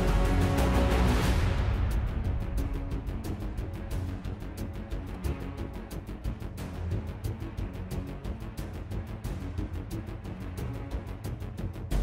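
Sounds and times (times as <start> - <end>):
music with deep bass: 0.0 - 12.0.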